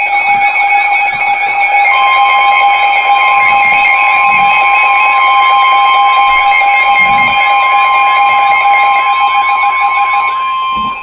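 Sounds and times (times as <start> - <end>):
steady alarm tone: 0.0 - 11.0.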